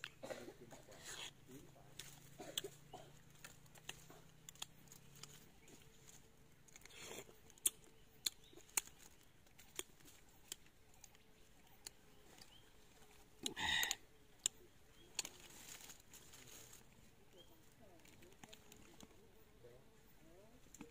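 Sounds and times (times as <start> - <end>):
crunchy chewing: 0.0 - 19.2.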